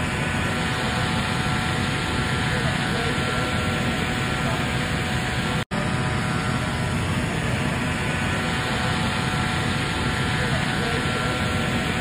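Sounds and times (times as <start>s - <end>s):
large engine running: 0.0s - 12.0s.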